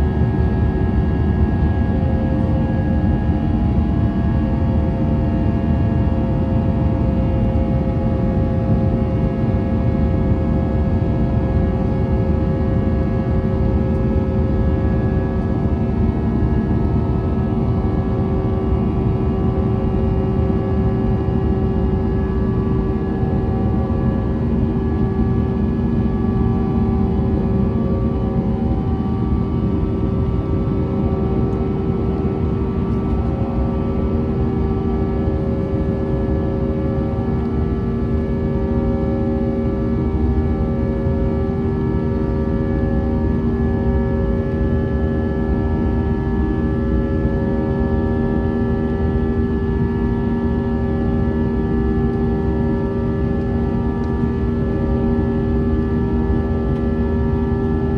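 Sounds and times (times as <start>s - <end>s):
airplane cabin engine rumble: 0.0s - 57.9s.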